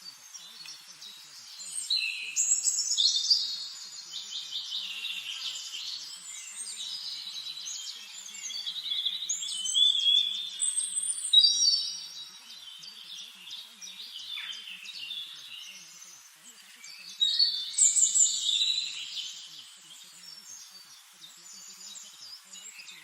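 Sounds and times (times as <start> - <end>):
songbirds chorus: 0.0 - 23.0.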